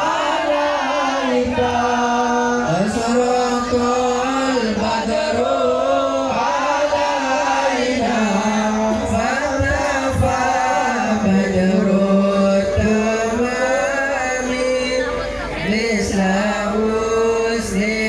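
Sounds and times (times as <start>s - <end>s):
men chanting over loudspeaker: 0.0s - 18.0s.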